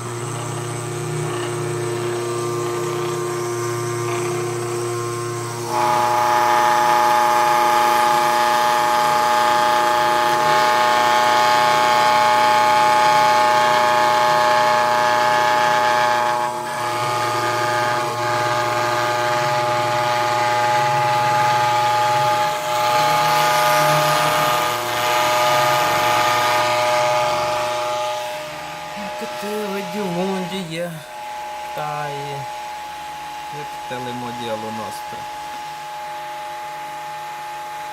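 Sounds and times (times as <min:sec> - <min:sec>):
machine motors whining: 0:00.0 - 0:37.8.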